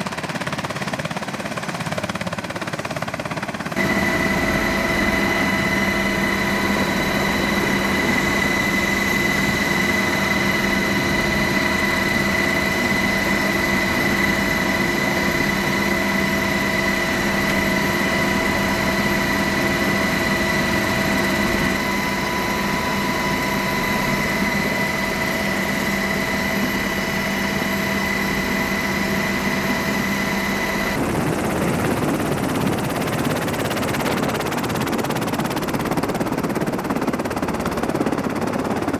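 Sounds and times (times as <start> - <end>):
helicopter engine whine: 0.0 - 38.9
helicopter rotor drone: 0.0 - 38.9
steady rushing noise: 3.7 - 37.7.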